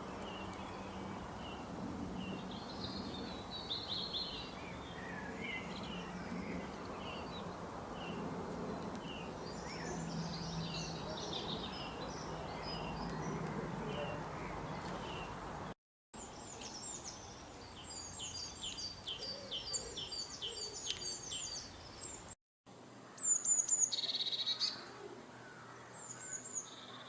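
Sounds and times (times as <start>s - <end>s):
small songbirds chirping: 0.0s - 22.4s, 23.1s - 27.0s.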